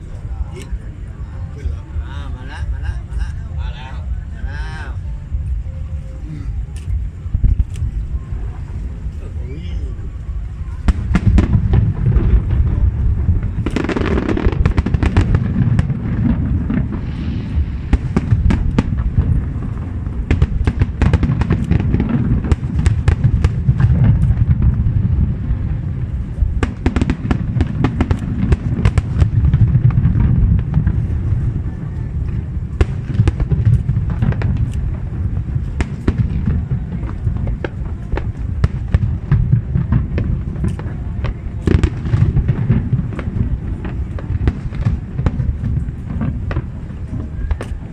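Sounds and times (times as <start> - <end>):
fireworks booming: 0.0 - 47.9
fireworks cracks and crackles: 0.0 - 47.9.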